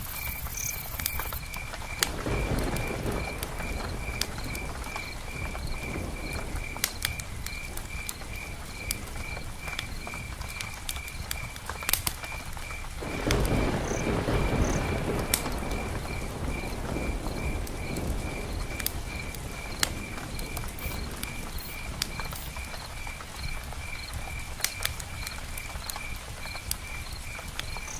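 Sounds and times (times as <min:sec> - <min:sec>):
campfire crackling and popping: 0:00.0 - 0:27.9
rain patter: 0:00.0 - 0:27.9.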